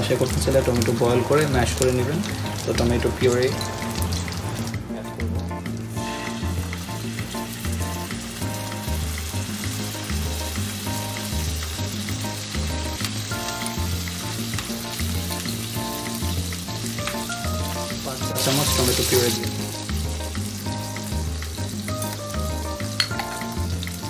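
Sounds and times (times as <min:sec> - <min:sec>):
background music with bass: 0:00.0 - 0:24.0
food sizzling in hot fat: 0:00.0 - 0:24.0.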